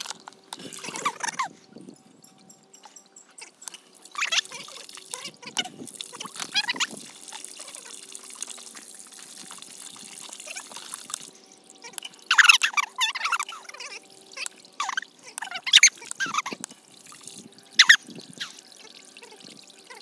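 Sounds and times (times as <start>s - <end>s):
fountain water splashing and trickling: 0.0s - 1.5s, 3.5s - 20.0s.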